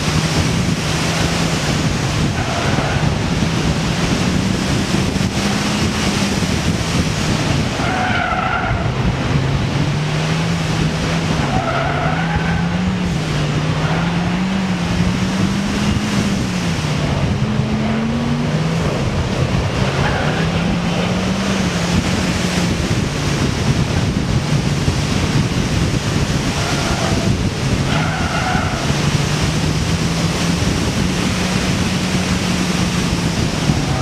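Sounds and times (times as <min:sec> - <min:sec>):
car engine revving: 0:00.0 - 0:34.0
tires squealing: 0:00.0 - 0:34.0
wind noise: 0:00.0 - 0:34.0.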